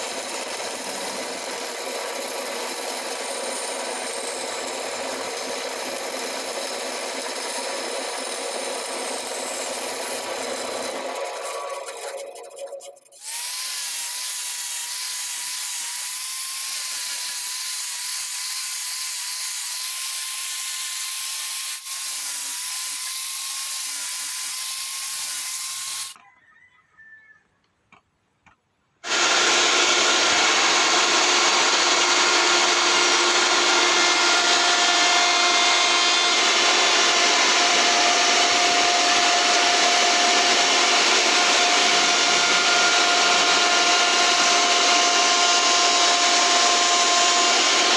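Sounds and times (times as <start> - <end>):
power tool whining on wood: 0.0 - 26.2, 29.0 - 47.9.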